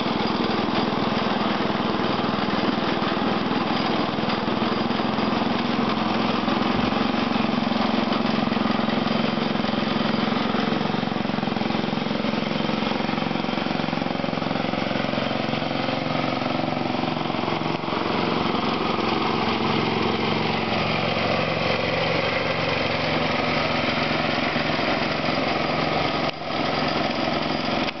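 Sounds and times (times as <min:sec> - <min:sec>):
garden tractor engine running: 0:00.0 - 0:28.0.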